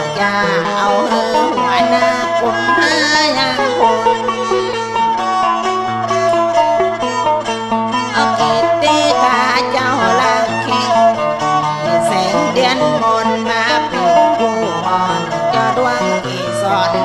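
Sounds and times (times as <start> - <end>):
bowed fiddle melody: 0.0 - 17.0
plucked lute: 0.0 - 17.0.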